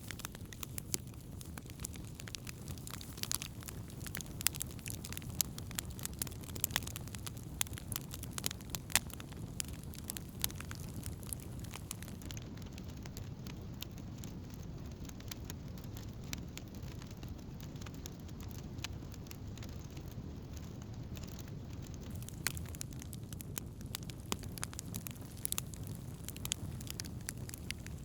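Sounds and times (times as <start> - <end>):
low rumble of flame: 0.0 - 28.0
wood crackling and popping: 0.0 - 28.0.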